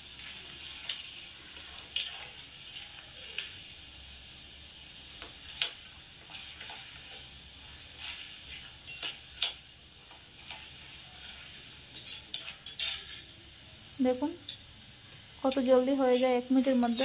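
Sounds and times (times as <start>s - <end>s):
chickpeas sizzling in hot oil: 0.0s - 17.0s.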